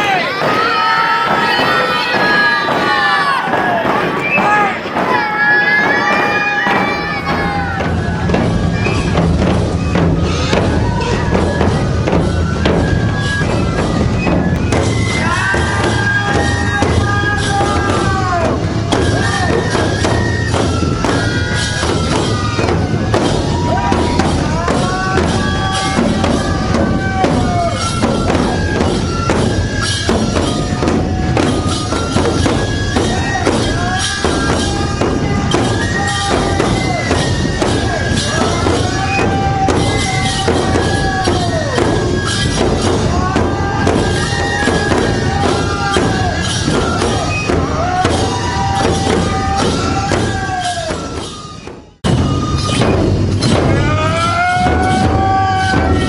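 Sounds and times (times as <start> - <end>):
bamboo flute melody: 0.0 - 56.0
hand cymbals clashing: 0.0 - 56.0
large taiko drums beating: 0.0 - 56.0.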